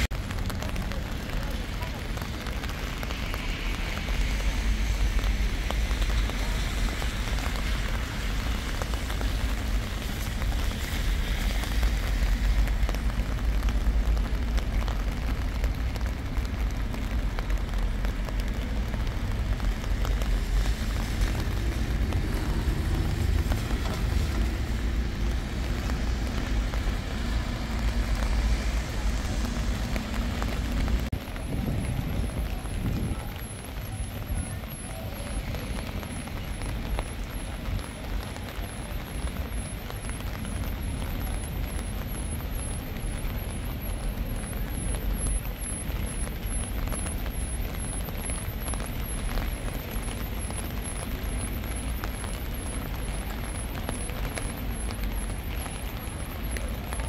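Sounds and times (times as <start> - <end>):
constant low rumble: 0.0 - 57.0
steady rain hissing: 0.0 - 57.0.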